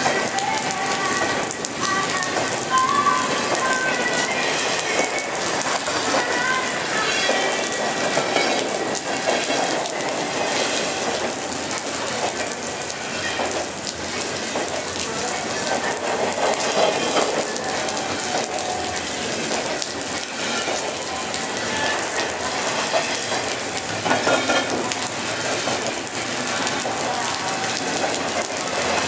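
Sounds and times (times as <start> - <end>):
freight train rumbling past: 0.0 - 29.0
steady rain falling: 0.0 - 29.0.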